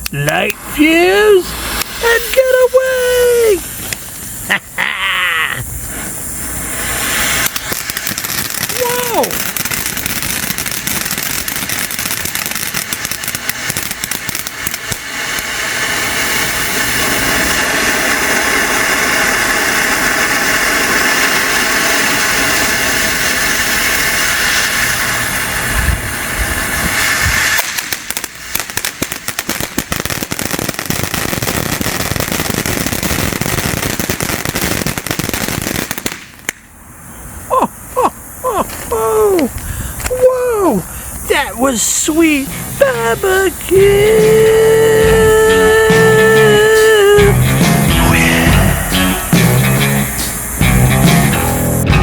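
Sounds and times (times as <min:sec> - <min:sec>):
fountain firework crackling: 0:00.0 - 0:52.0.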